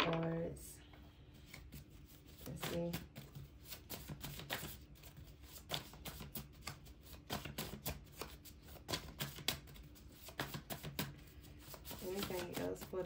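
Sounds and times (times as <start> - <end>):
cards being shuffled: 1.4 - 13.0.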